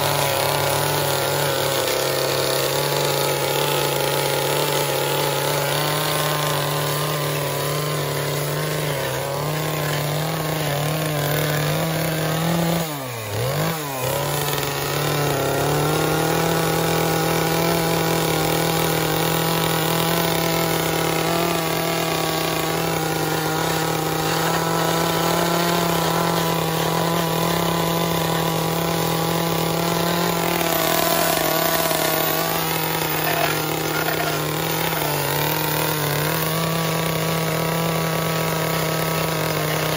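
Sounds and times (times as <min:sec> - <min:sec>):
chainsaw engine at high revs: 0:00.0 - 0:39.9.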